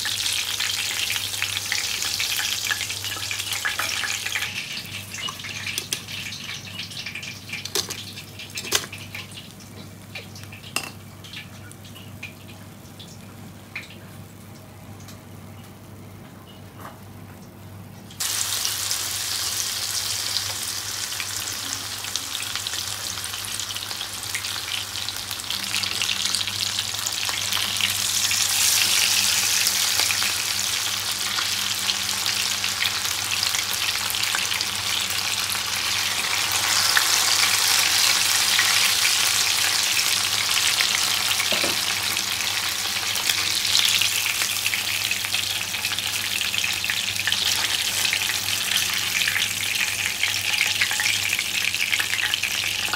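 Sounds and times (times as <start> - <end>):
fish sizzling in hot oil: 0.0 - 13.2, 18.2 - 52.9.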